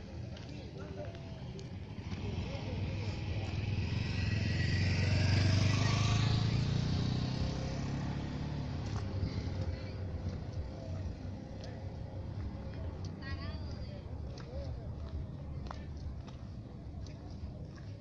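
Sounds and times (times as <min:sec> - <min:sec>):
engine passing by: 0:00.0 - 0:18.0.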